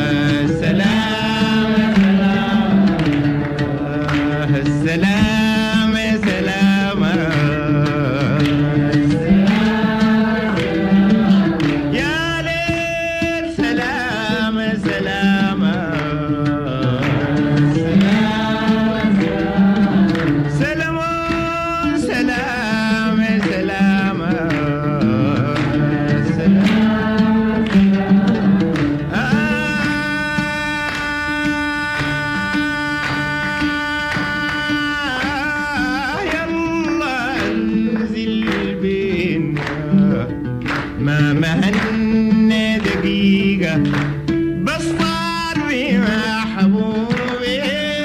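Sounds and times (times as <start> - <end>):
man singing ornamented melody: 0.0 - 28.3, 29.0 - 40.4, 44.6 - 48.0
instrumental accompaniment: 0.0 - 48.0
plucked string strikes: 0.0 - 48.0.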